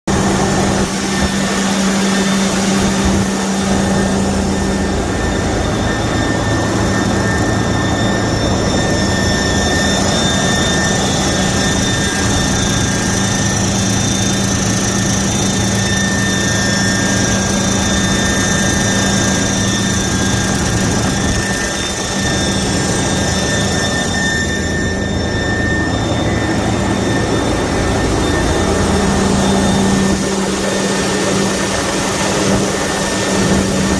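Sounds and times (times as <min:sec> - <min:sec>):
high turbocharger whine: 0:00.1 - 0:33.9.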